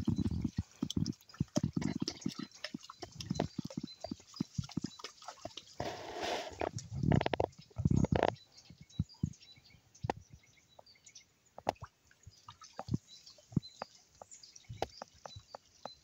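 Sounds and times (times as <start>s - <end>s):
dog paws splashing in water: 0.0s - 9.4s, 11.6s - 16.0s
small birds chirping faintly: 0.0s - 16.0s.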